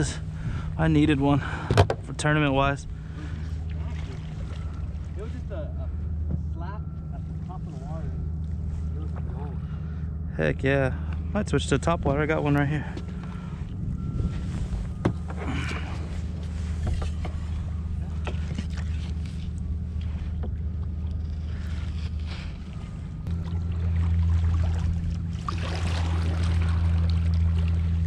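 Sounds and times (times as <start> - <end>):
outboard motor humming: 0.0 - 28.0.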